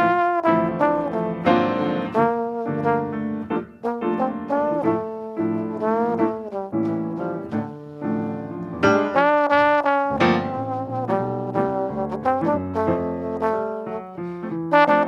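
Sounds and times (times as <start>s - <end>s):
brass instrument playing hymn melody: 0.0s - 15.0s
piano accompaniment: 0.0s - 15.0s.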